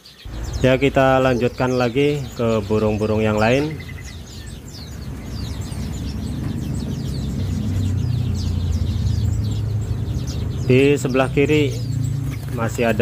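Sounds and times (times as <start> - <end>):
songbirds chirping: 0.0 - 13.0
low hum: 0.3 - 10.8.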